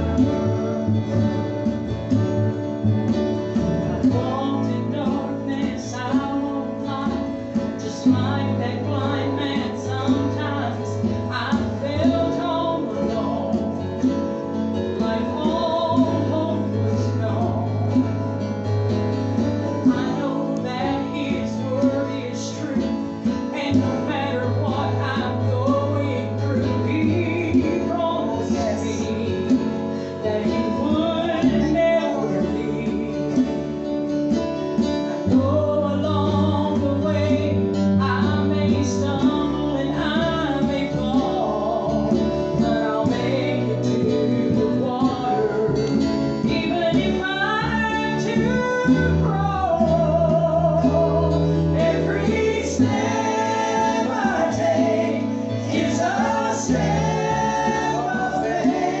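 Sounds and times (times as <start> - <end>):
group singing gospel: 0.0 - 18.2, 19.4 - 33.8, 38.3 - 59.0
held low bass notes: 0.0 - 59.0
strummed amplified guitars: 0.0 - 59.0.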